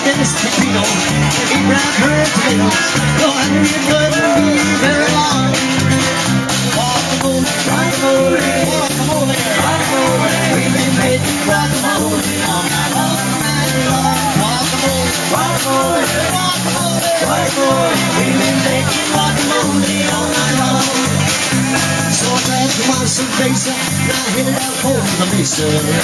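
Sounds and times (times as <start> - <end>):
person singing through a pa: 0.0 - 5.7, 6.7 - 26.0
drum beat: 0.0 - 26.0
electric guitar: 0.0 - 26.0.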